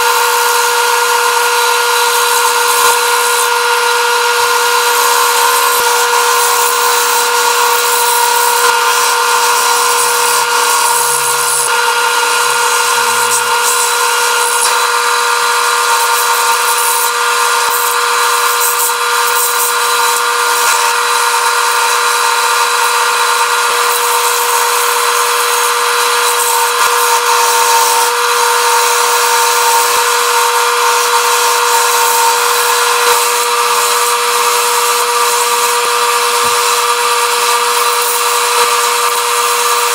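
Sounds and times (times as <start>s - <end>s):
turning tool scraping wood: 0.0s - 39.9s
wood lathe motor whine: 0.0s - 39.9s.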